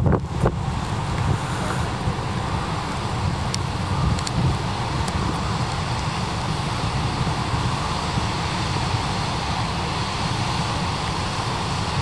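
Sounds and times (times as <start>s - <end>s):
waterfall rushing: 0.6s - 12.0s.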